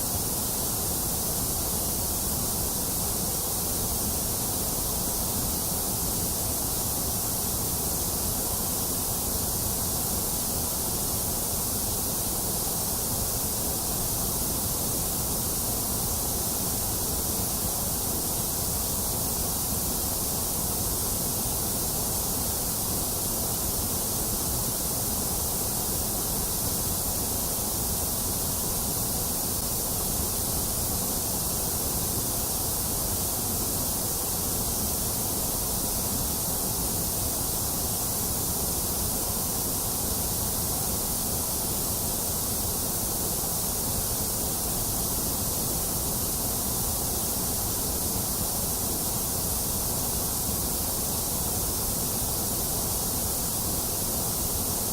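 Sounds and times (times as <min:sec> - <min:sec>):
electronic white noise hiss: 0:00.0 - 0:54.9.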